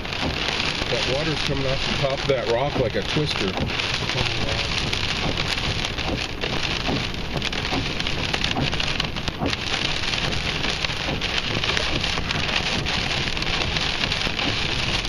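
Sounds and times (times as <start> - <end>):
heavy rain pattering: 0.0 - 15.0.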